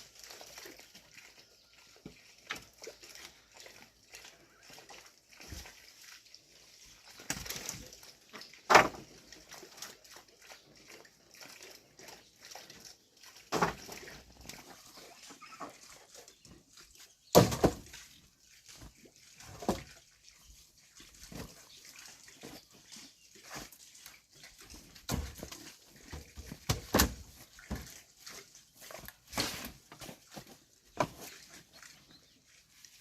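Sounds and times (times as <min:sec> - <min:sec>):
pigs slurping wet mash: 0:00.0 - 0:17.3, 0:17.9 - 0:33.0.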